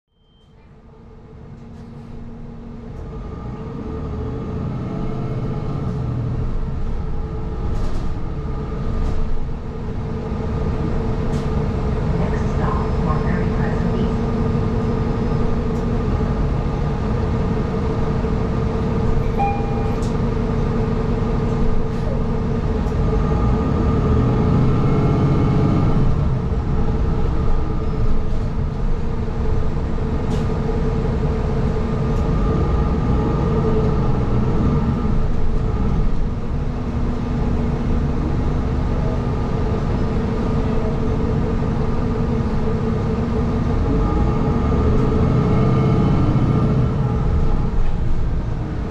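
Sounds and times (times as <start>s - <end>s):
bus engine hum: 0.1s - 48.9s
road rumble: 0.4s - 48.9s.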